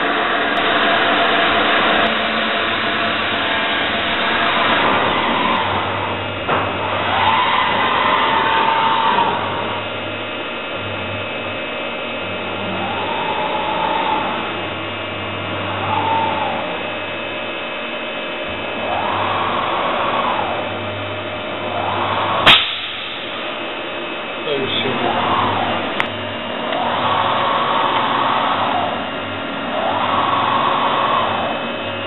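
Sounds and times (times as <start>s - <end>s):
axis drive whine: 0.0s - 32.0s
milling machine hum: 0.0s - 32.0s.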